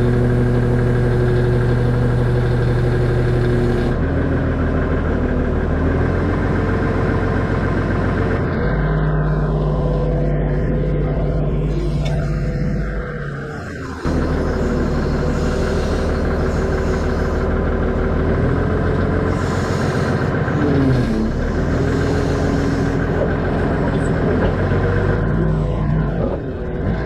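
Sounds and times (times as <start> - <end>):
forklift engine running: 0.0 - 27.0.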